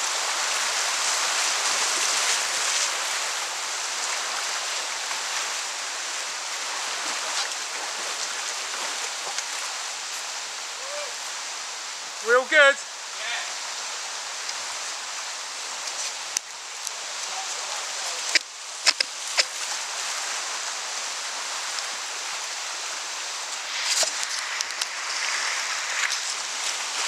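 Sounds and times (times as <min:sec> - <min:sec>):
rushing whitewater: 0:00.0 - 0:27.0.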